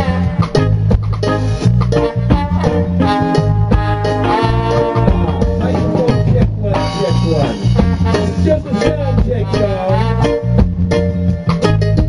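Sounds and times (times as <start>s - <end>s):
bass line: 0.0s - 12.0s
drums: 0.0s - 12.0s
electric guitar: 0.0s - 12.0s.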